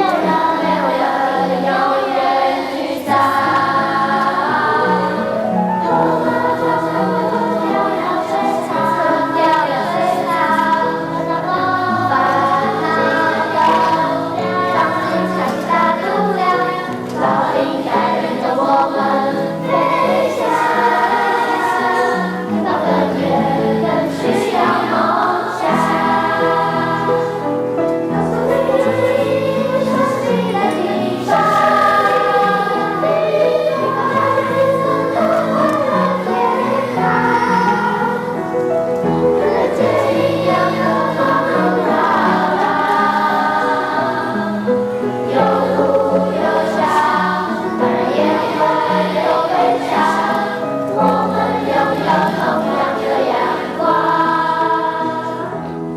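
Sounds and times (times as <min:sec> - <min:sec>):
choir singing in harmony: 0:00.0 - 0:55.9.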